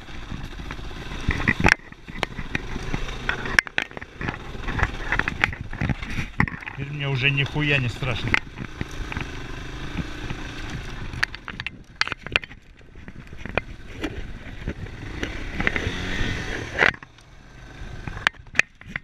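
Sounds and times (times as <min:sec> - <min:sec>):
knocks and scrapes: 0:00.0 - 0:17.1, 0:18.0 - 0:19.0
motorcycle engine revving: 0:00.0 - 0:19.0.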